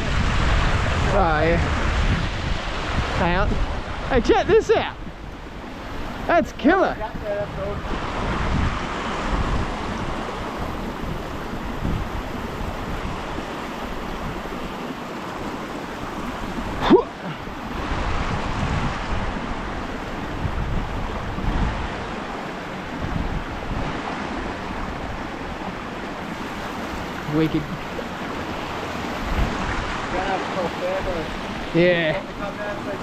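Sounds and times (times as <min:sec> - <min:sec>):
creek water flowing: 0:00.0 - 0:33.0
wind buffeting microphone: 0:00.0 - 0:33.0.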